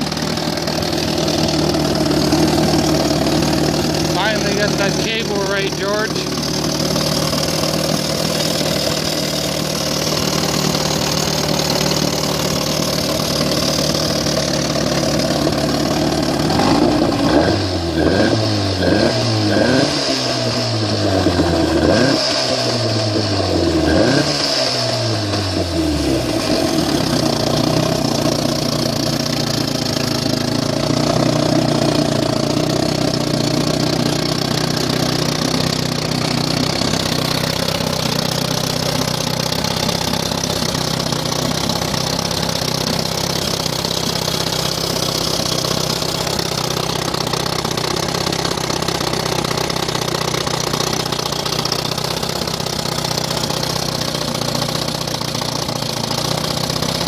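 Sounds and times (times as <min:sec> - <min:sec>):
outboard motor idling and revving: 0:00.0 - 0:57.0.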